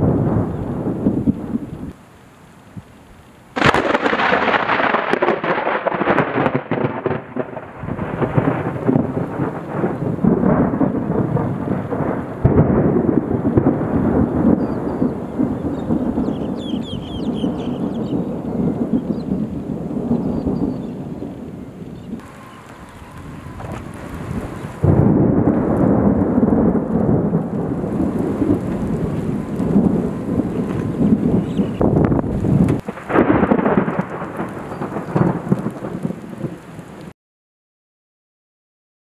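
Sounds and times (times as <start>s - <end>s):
rolling thunder: 0.0s - 2.0s, 3.6s - 37.1s.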